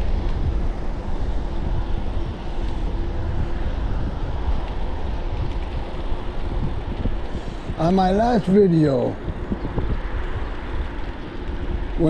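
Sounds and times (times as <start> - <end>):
faint steady hum: 0.0 - 12.0
rolling road noise: 0.0 - 12.0
wind buffeting microphone: 0.0 - 12.0.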